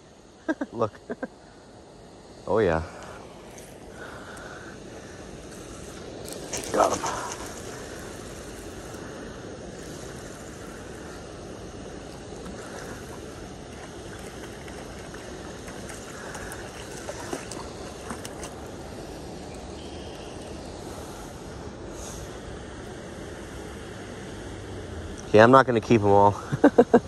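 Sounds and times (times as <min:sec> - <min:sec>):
flowing river: 0:02.6 - 0:27.0.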